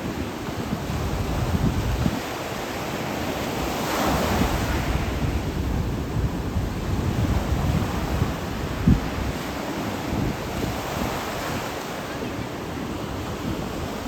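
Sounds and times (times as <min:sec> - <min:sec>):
ocean waves washing ashore: 0:00.0 - 0:14.0
wind buffeting microphone: 0:00.0 - 0:14.0.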